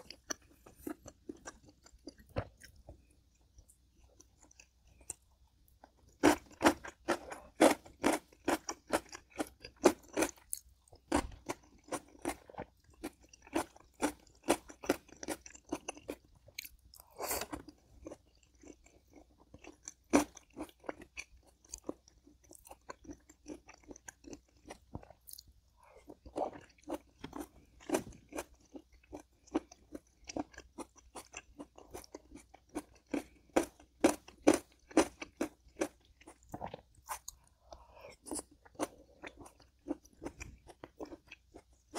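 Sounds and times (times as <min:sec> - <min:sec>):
person chewing and crunching food: 0:00.0 - 0:41.9.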